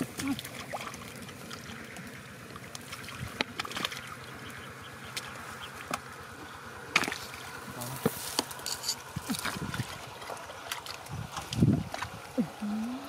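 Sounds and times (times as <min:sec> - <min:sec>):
mud squelching: 0:00.0 - 0:13.0.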